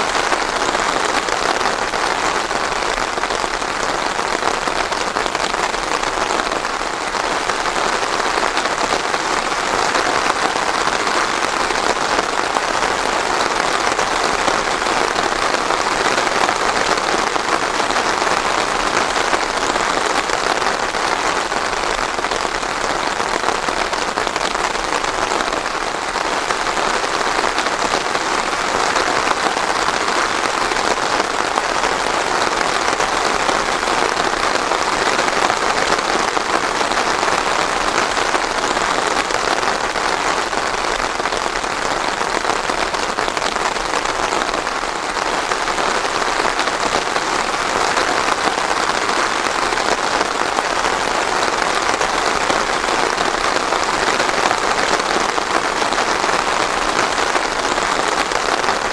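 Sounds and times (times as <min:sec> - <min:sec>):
rain pattering on surfaces: 0:00.0 - 0:58.9.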